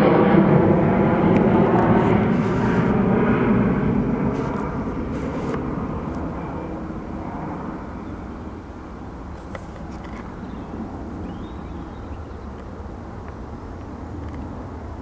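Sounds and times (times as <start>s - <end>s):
jet engines passing: 0.0s - 15.0s.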